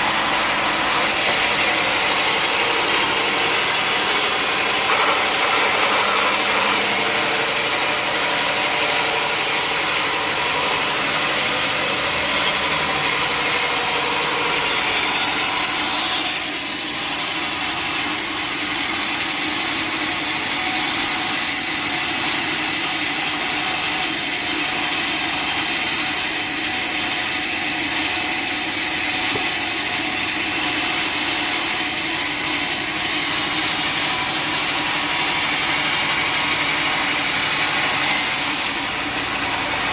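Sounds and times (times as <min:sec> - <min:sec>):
saw blade rasping through log: 0:00.0 - 0:39.9.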